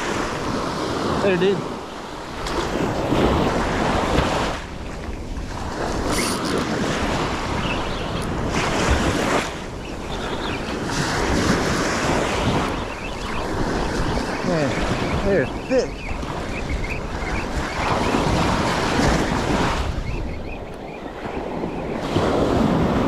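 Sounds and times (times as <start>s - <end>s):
surf waves breaking on beach: 0.0s - 23.0s
wind buffeting microphone: 0.0s - 23.0s.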